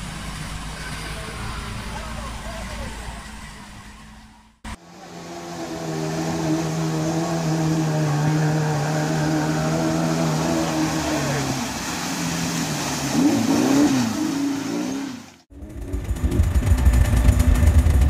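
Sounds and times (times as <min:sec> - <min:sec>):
water splashing: 0:00.0 - 0:15.5
car engine revving: 0:00.0 - 0:18.0
low rumble of vehicle driving: 0:00.0 - 0:18.0.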